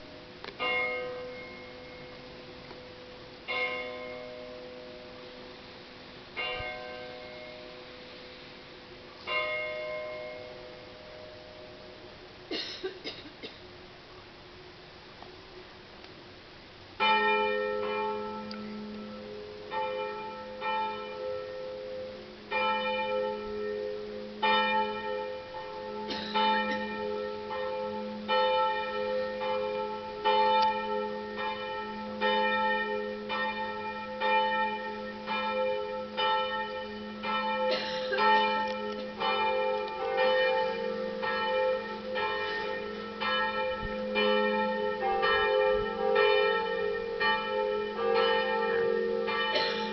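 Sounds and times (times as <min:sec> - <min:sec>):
church bells ringing: 0:00.0 - 0:05.7, 0:06.3 - 0:12.2, 0:17.0 - 0:49.9.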